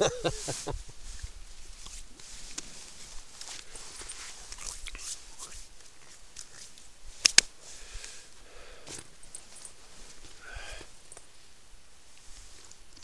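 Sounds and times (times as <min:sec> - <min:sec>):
faint scattered small sounds: 0:00.0 - 0:13.0.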